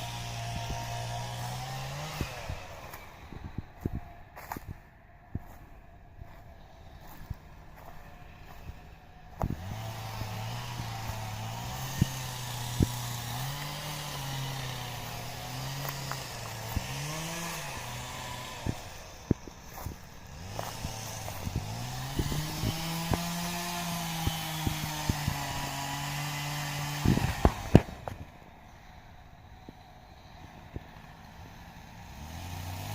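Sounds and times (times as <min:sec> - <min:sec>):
chainsaw engine revving: 0:00.0 - 0:04.7, 0:06.2 - 0:28.3, 0:30.4 - 0:32.9.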